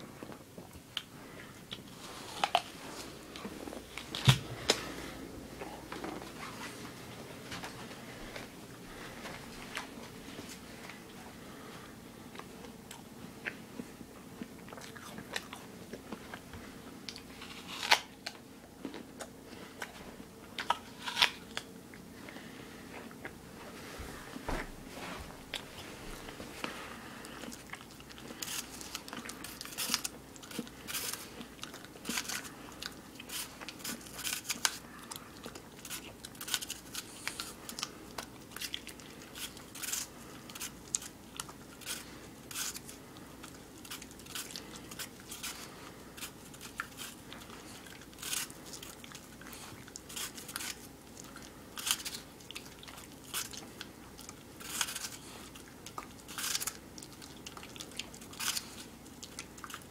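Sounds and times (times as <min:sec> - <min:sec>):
dog crunching apple: 0:00.1 - 0:07.8, 0:12.4 - 0:23.4, 0:25.5 - 0:59.9.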